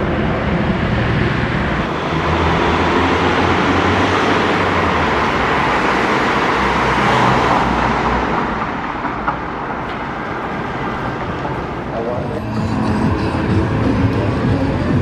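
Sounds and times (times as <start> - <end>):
street traffic: 0.0 - 15.0
van engine and tyre noise: 0.0 - 15.0.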